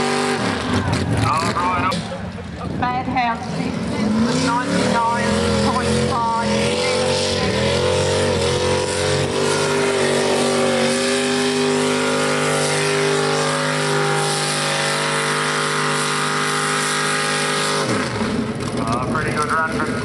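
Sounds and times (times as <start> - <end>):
tractor engine running hard: 0.0 - 20.0.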